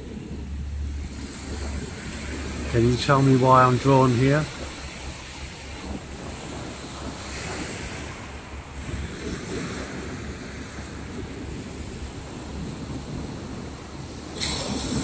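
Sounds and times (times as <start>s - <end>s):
waves washing on shingle beach: 0.0s - 15.0s
wind buffeting microphone: 0.0s - 15.0s.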